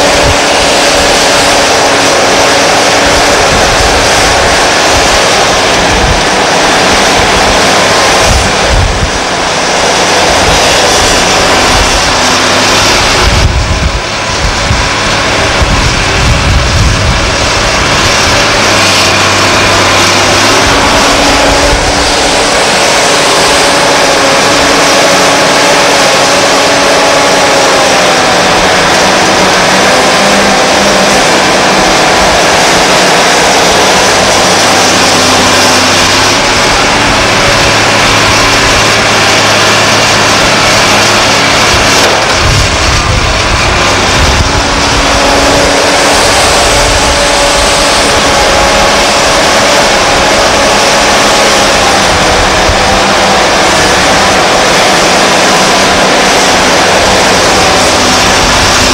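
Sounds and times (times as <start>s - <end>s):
diesel engine under load: 0.0s - 58.9s
hydraulic whine wavering in pitch: 0.0s - 58.9s.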